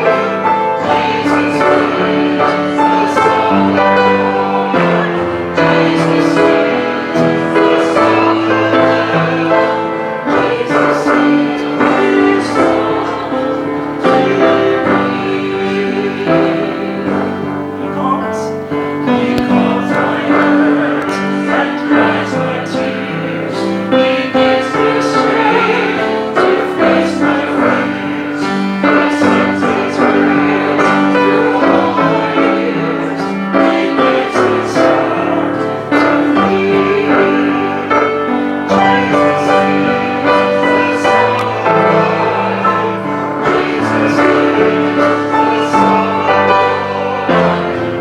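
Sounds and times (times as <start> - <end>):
piano accompaniment: 0.0 - 48.0
voices singing worship song: 0.0 - 48.0.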